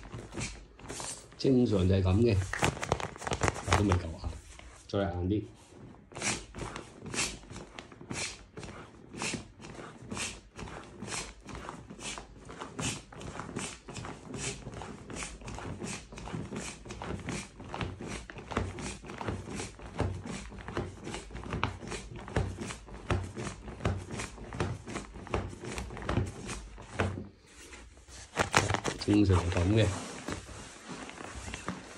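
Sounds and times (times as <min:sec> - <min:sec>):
foot pump puffing air: 0:00.0 - 0:04.8, 0:05.7 - 0:31.9.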